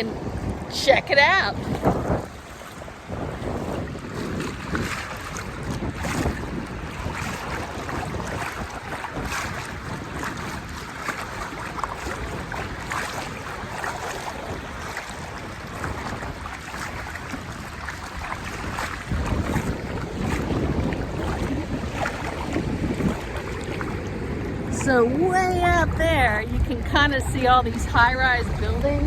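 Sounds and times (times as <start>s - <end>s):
small waves washing: 0.0s - 29.0s
wind buffeting microphone: 0.0s - 29.0s.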